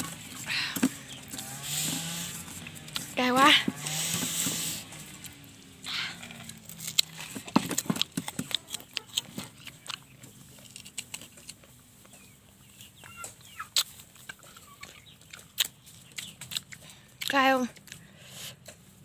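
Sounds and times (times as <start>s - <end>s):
chickens clucking: 0.0s - 17.2s
crunchy chewing of guava: 0.0s - 19.0s.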